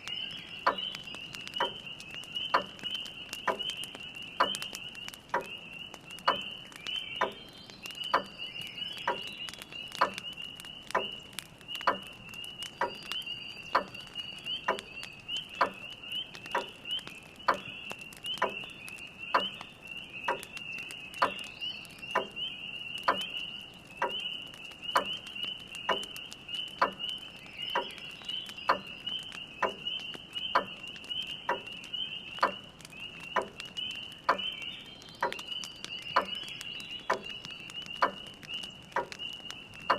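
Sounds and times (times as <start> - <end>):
frogs trilling: 0.0 - 39.9
wood fire crackling: 0.0 - 39.9.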